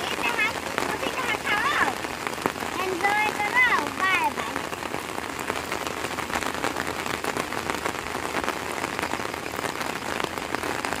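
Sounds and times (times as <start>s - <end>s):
rain falling: 0.0s - 11.0s
sharp ticks of raindrops: 0.0s - 11.0s.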